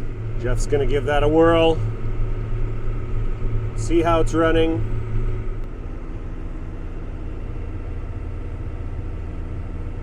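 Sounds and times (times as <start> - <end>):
farm machine engine droning: 0.0 - 10.0.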